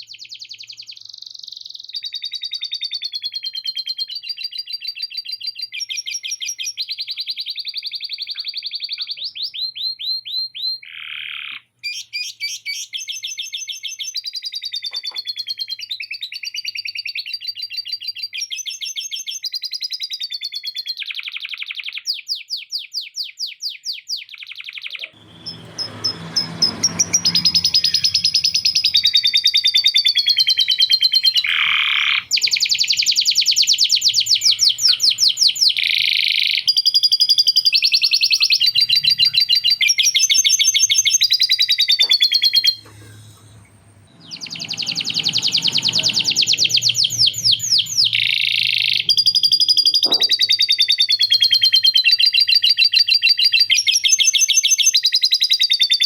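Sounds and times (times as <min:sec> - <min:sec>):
canary singing: 0:00.1 - 0:56.0.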